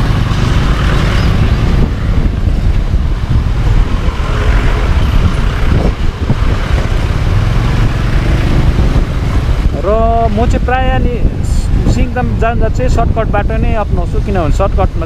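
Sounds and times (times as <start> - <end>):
motorcycle and road noise: 0.0 - 15.0
wind rumbling on microphone: 0.0 - 15.0.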